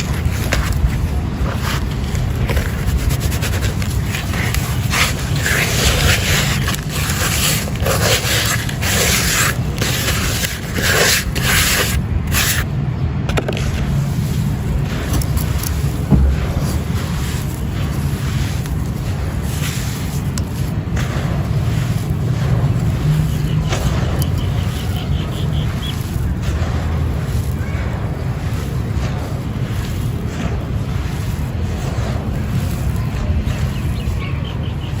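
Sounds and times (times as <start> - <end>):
gritty stone crunching and scraping: 0.0 - 12.7, 13.3 - 35.0
steady low rumble: 0.0 - 35.0.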